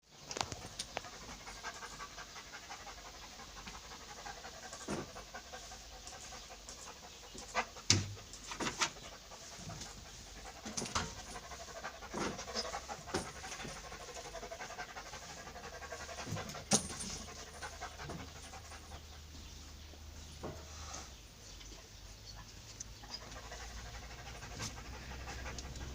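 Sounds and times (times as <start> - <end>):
animal panting: 0.2 - 25.9.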